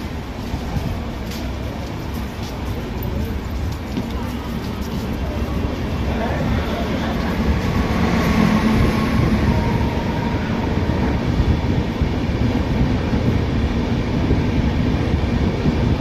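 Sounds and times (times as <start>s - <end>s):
train wheels rumbling and rattling: 0.0s - 16.0s.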